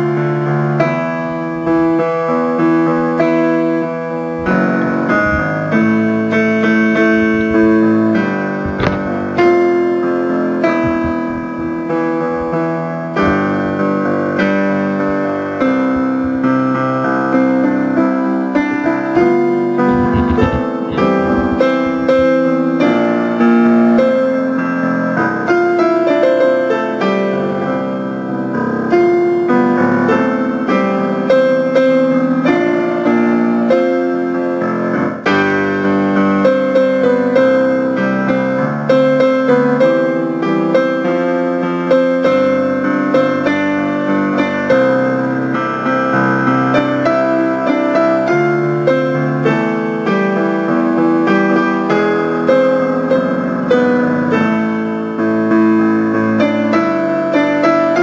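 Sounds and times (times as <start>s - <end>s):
piano playing: 0.0s - 58.0s.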